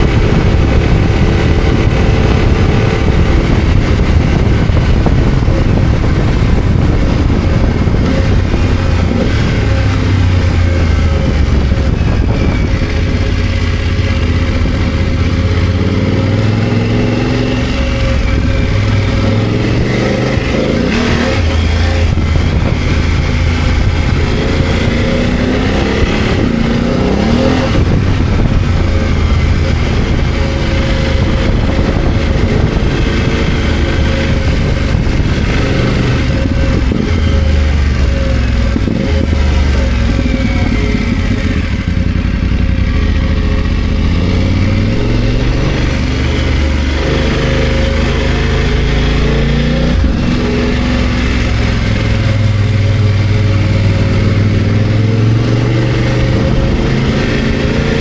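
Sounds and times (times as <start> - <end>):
motorcycle engine revving: 0.0 - 58.0
steady rushing noise: 0.0 - 58.0.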